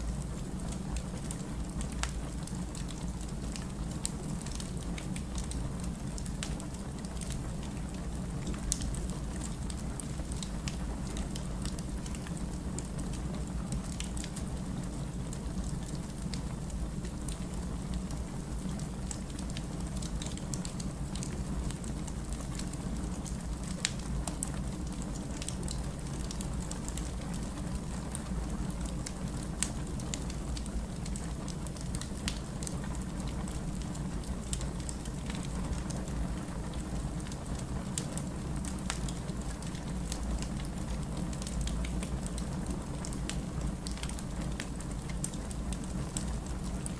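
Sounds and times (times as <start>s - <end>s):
firewood crackling: 0.2s - 46.9s.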